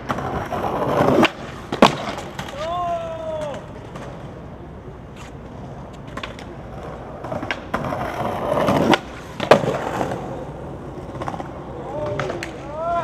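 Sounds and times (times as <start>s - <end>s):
skateboard tail popping on ground: 0.0s - 4.4s, 5.2s - 13.0s
skateboard wheels rolling on concrete: 0.0s - 13.0s.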